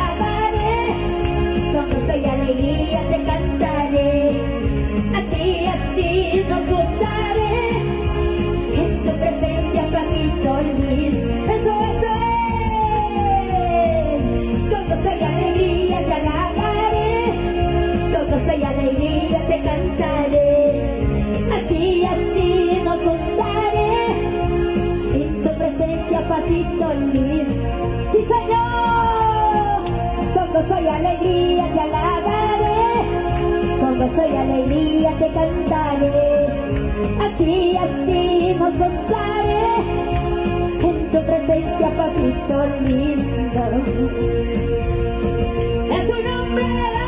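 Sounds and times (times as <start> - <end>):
band with steady bass beat: 0.0 - 47.0
woman singing into a microphone: 0.0 - 47.0.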